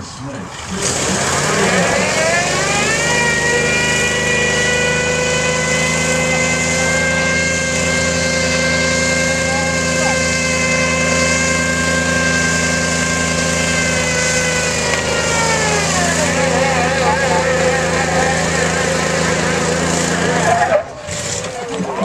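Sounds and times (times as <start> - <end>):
truck engine at high revs: 0.0 - 22.0
tyres spinning on tarmac: 0.2 - 22.0.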